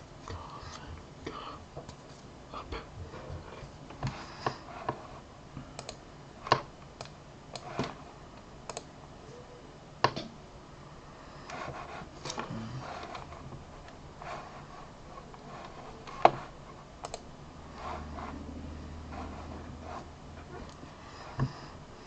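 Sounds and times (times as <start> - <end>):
low room hiss: 0.0 - 22.0.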